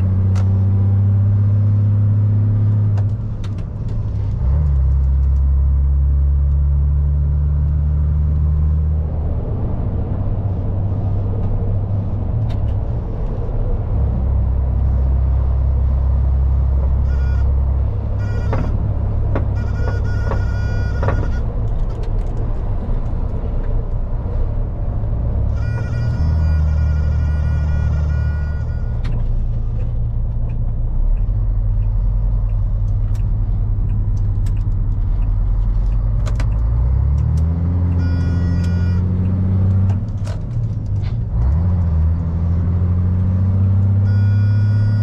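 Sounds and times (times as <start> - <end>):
diesel lorry engine with gear changes: 0.0 - 45.0.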